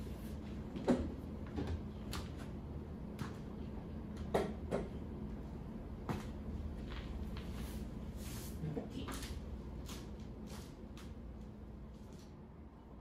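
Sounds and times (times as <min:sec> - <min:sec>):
low hum of room noise: 0:00.0 - 0:13.0.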